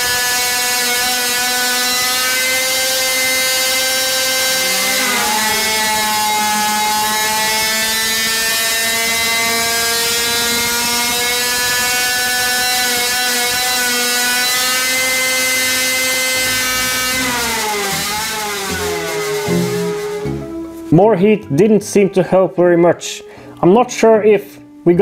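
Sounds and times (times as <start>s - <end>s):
two-stroke engine revving high: 0.0s - 20.6s.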